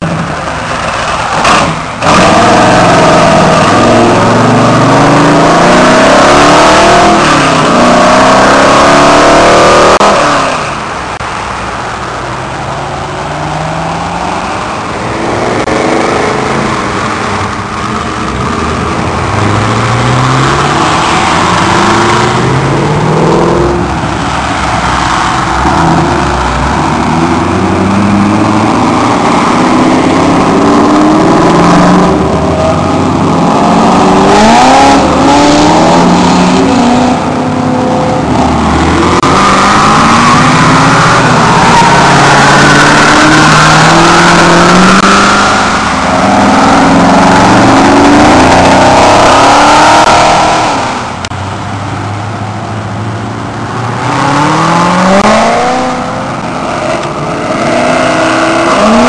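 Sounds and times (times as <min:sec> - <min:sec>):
car engines revving and accelerating: 0:00.0 - 0:59.0.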